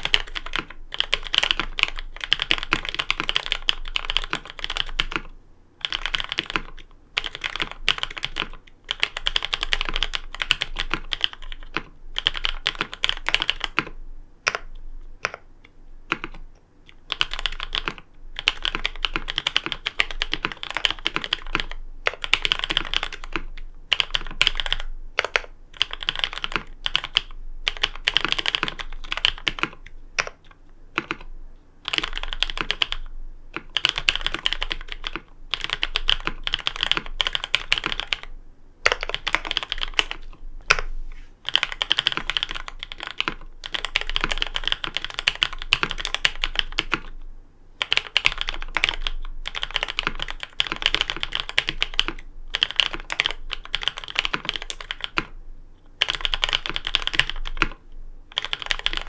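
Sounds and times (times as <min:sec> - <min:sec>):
mechanical keyboard typing: 0:00.0 - 0:15.5, 0:16.1 - 0:40.8, 0:41.4 - 0:47.2, 0:47.8 - 0:55.3, 0:56.0 - 0:59.0.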